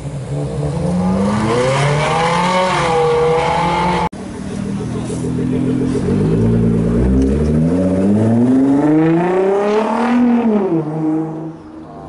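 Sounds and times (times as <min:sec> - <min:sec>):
car engine accelerating hard: 0:00.2 - 0:12.0.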